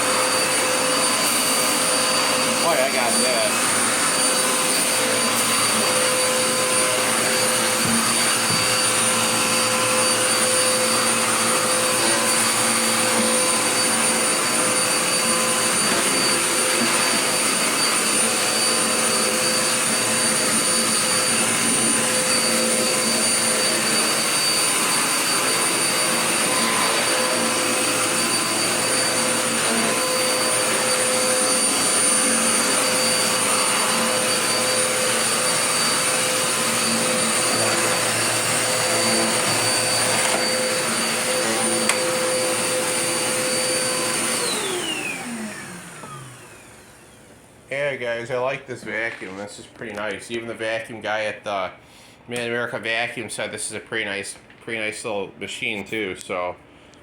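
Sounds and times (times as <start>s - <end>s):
vacuum cleaner running: 0.0s - 48.4s.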